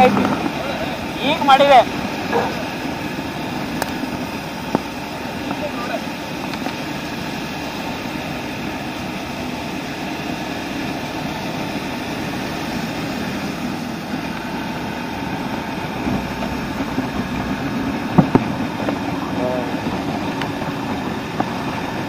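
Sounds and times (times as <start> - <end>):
motorcycle engine hum: 0.0 - 22.0
wind and road noise: 0.0 - 22.0.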